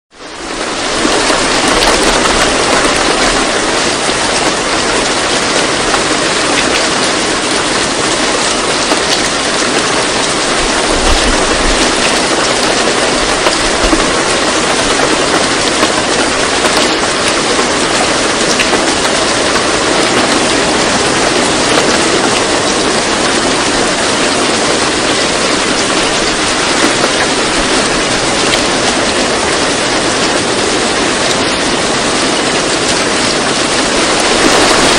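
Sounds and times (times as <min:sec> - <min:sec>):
steady rushing noise: 0:00.3 - 0:34.9.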